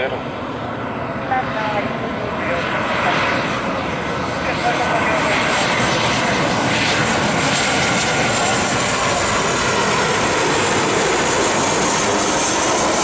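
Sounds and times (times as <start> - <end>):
airliner engines passing low: 0.0 - 13.0.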